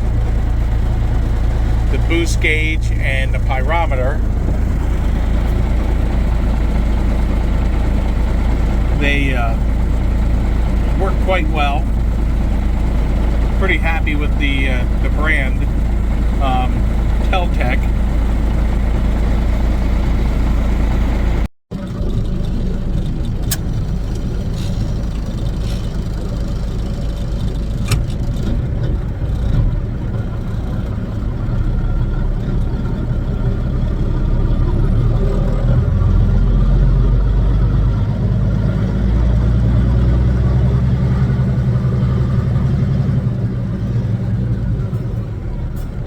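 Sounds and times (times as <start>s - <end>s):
diesel engine drone: 0.0s - 46.0s.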